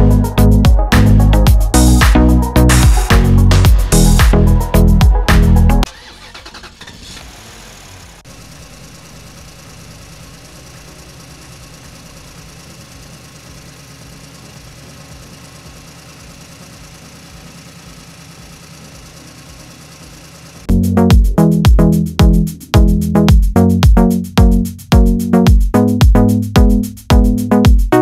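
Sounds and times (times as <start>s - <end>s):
tractor engine idling: 0.0s - 24.2s.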